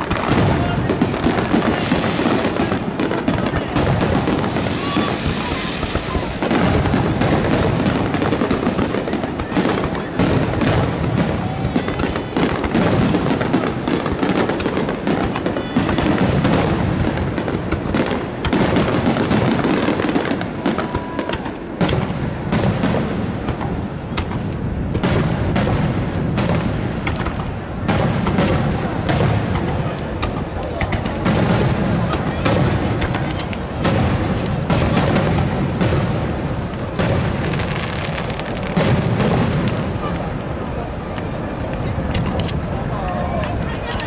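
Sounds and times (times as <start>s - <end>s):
firework shells bursting: 0.0s - 44.0s.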